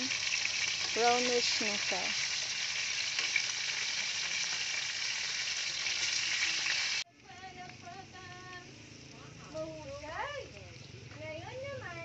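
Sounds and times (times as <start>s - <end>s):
wings frying in hot oil: 0.0s - 12.0s.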